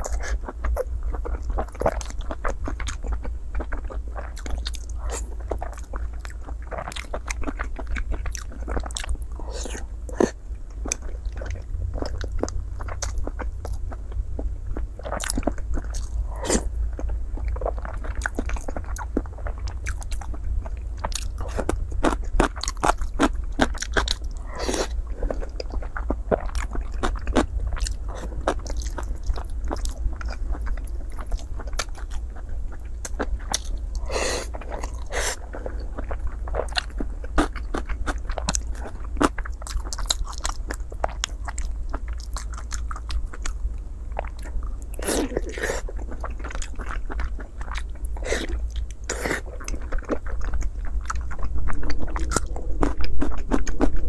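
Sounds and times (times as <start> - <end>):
person chewing wetly: 0.0 - 54.0
steady low hum: 0.0 - 54.0.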